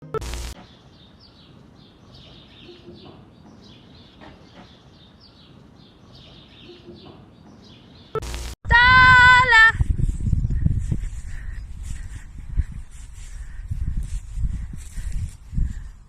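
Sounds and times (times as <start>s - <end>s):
small birds chirping: 0.2s - 8.5s, 10.2s - 16.0s.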